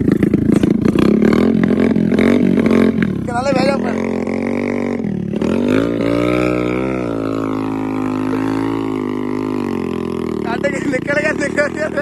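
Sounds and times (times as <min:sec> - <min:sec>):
motorcycle engine under load: 0:00.0 - 0:12.0.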